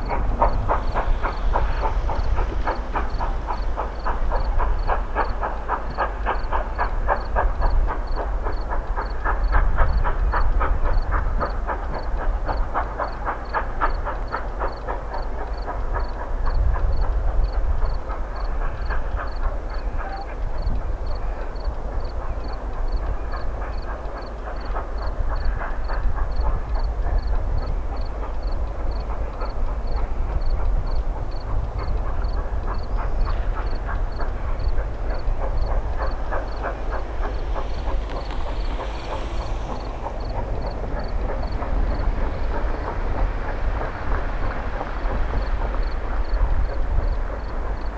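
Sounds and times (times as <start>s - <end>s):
train low rumble: 0.0s - 47.9s
train rhythmic clacking: 0.0s - 47.9s.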